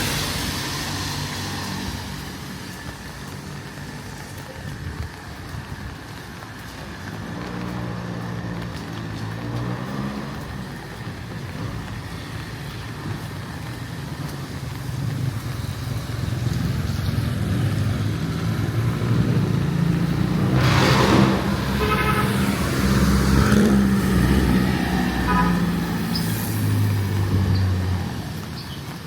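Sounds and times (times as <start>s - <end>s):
vehicle engine running: 2.2s - 25.6s.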